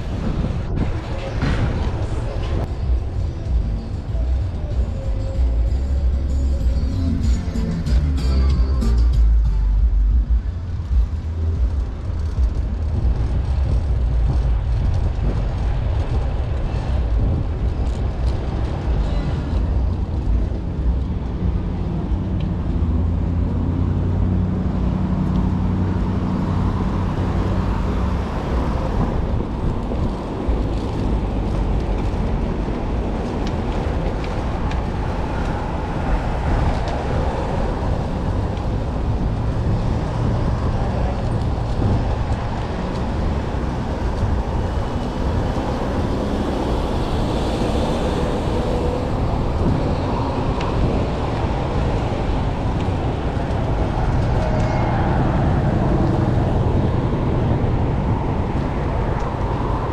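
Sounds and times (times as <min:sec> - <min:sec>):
city street traffic rumble: 0:00.0 - 0:59.9.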